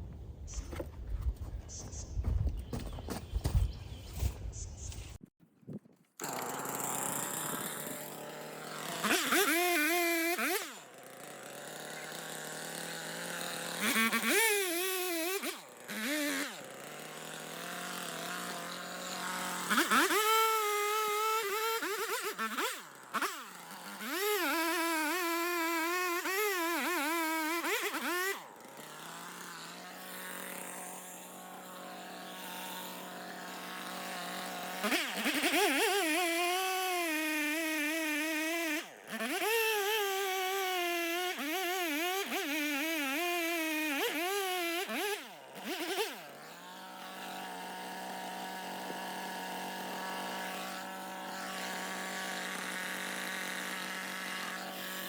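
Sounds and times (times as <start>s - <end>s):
chainsaw cutting wood: 5.7s - 55.0s.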